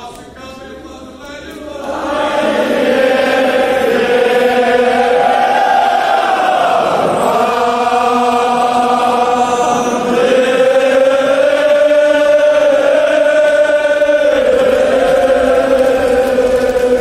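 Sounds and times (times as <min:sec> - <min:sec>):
men chanting a lament: 0:00.8 - 0:17.0.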